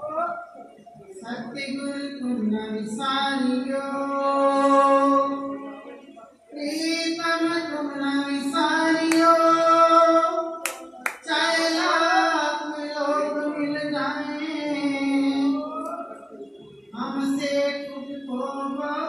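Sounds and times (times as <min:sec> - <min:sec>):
woman singing: 0:01.2 - 0:05.5, 0:06.6 - 0:16.3, 0:16.9 - 0:19.0.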